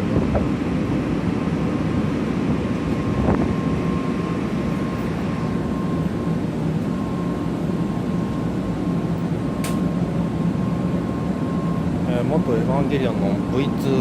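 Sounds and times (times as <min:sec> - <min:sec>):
air-conditioning running: 0:00.0 - 0:14.0
train rumble and hiss: 0:00.0 - 0:14.0.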